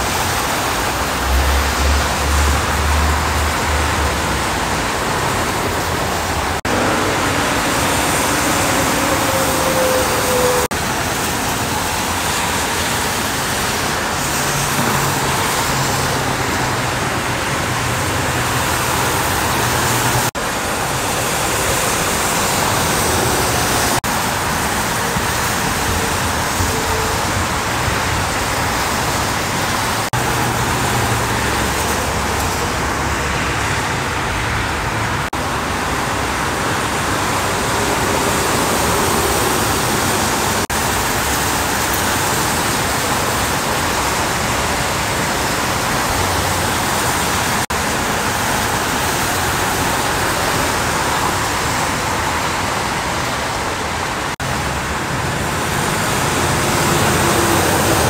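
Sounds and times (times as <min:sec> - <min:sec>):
truck engines droning: 0:00.0 - 0:58.0
tyres hissing on wet road: 0:00.0 - 0:58.0.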